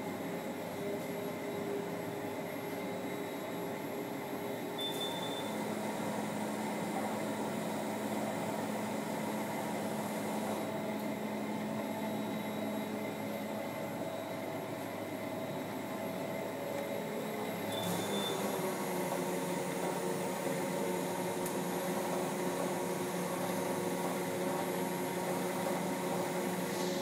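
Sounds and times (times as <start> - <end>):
treadmill motor whirring: 0.0 - 27.0.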